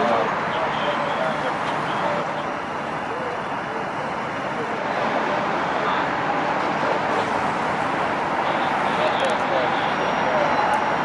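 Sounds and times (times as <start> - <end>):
faint voices: 0.0 - 11.0
rushing vehicle noise: 0.0 - 11.0.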